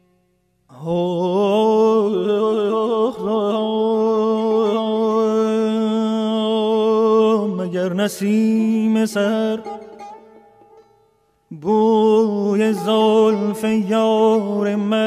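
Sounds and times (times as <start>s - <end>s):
person singing wordless melody: 0.7s - 15.0s.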